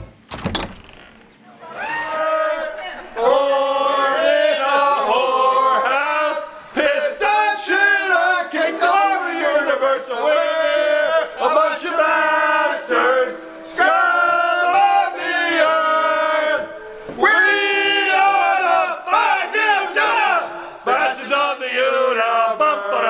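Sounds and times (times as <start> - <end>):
men chanting in unison: 2.1 - 23.0.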